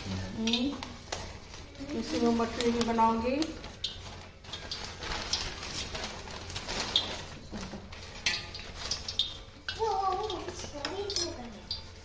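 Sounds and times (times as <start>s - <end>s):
steel utensils and pans clinking: 0.0s - 12.0s.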